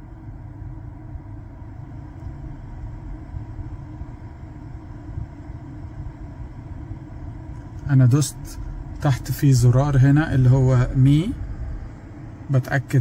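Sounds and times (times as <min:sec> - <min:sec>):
car cabin rumble: 0:00.0 - 0:13.0
faint even hum: 0:00.0 - 0:13.0.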